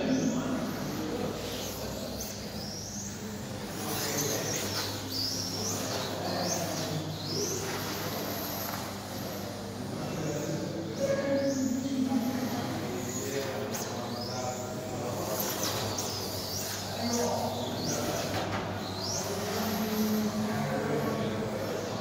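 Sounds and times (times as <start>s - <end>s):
rc car electric motor whine: 0.0s - 22.0s.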